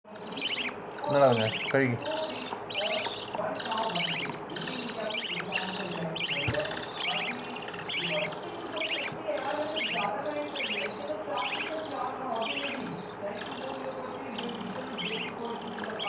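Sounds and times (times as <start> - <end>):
bird chicks begging calls: 0.1 - 16.0.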